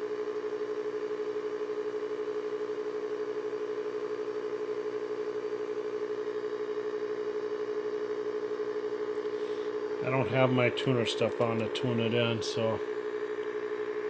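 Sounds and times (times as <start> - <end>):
tube tv hum-buzz: 0.0 - 14.0.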